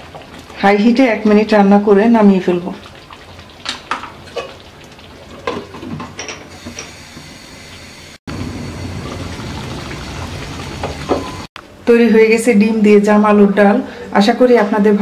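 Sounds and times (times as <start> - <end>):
curry cooking low noise: 0.0 - 15.0.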